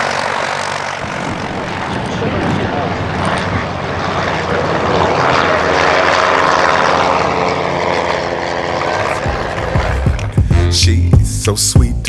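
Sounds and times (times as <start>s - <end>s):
propeller plane flying past: 0.0s - 10.6s.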